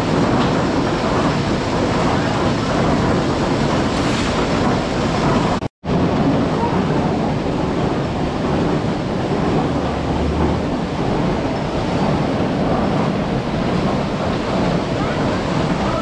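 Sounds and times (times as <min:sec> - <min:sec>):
washing machinery rushing with water: 0:00.0 - 0:16.0.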